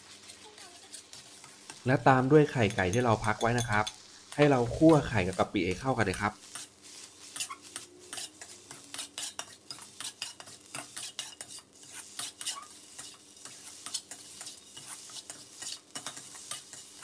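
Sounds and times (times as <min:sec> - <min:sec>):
light sizzle of hot pan: 0:00.0 - 0:17.0
metal spatula scraping a wok: 0:00.0 - 0:17.0.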